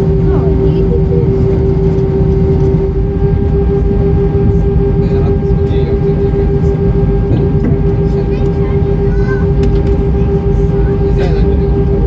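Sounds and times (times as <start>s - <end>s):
jet engine rumble and whine in cabin: 0.0s - 12.0s.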